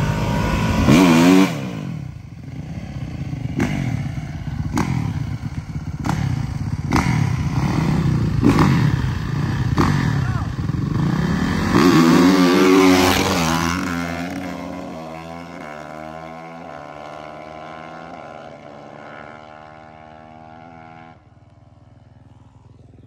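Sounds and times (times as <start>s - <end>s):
dirt bikes accelerating: 0.0s - 21.3s.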